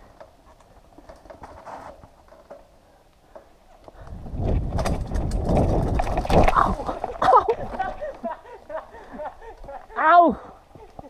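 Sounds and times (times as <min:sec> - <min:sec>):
bike clicks and rattles: 0:00.0 - 0:10.0, 0:10.6 - 0:11.0
bike rumbling over rough ground: 0:00.0 - 0:11.0.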